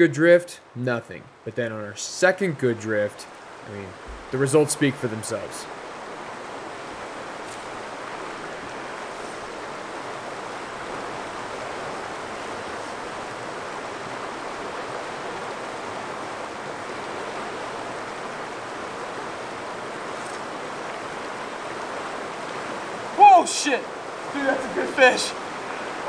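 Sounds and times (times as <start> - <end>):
river water rushing over rocks: 2.7 - 26.0.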